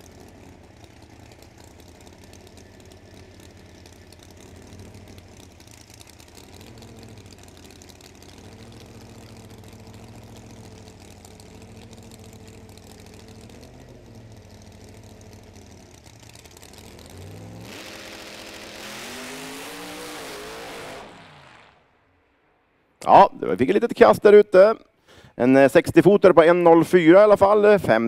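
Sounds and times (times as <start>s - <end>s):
drag car engines: 0.0s - 28.0s.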